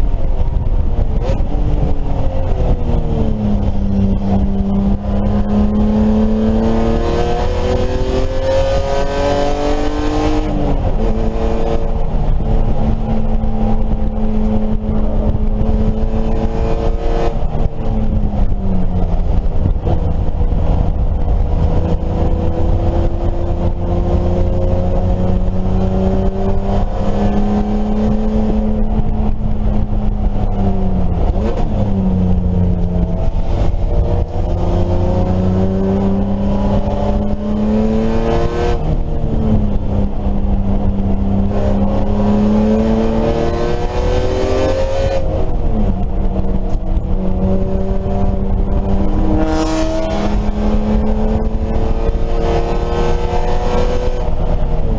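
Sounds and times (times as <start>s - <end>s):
race car engine accelerating: 0.0s - 54.9s.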